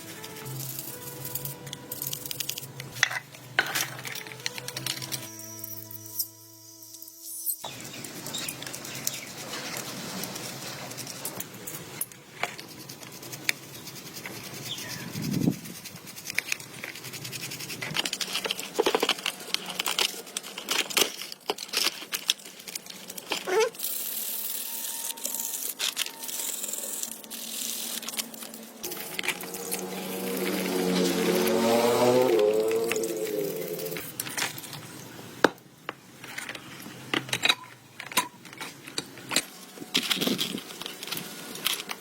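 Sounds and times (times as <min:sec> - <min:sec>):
scraping and rubbing metal parts: 0:00.0 - 0:35.0, 0:36.2 - 0:42.0.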